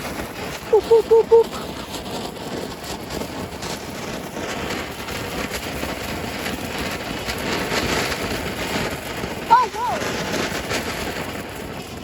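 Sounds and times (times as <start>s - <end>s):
fireworks hissing and crackling: 0.0s - 12.0s.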